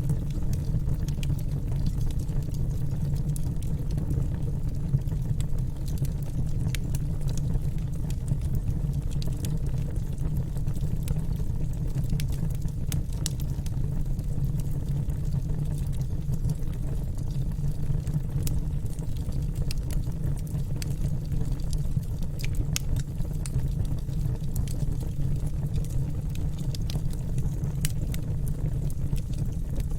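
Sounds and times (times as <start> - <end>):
low rumble of flames: 0.0 - 29.9
wood fire crackling: 0.0 - 29.9.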